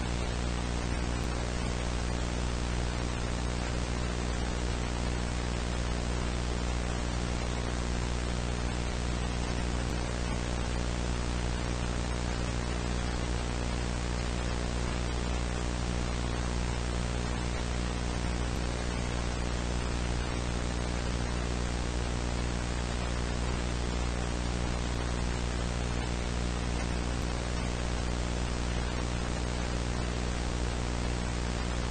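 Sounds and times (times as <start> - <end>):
low buzzing hum: 0.0 - 31.9
static hiss: 0.0 - 31.9.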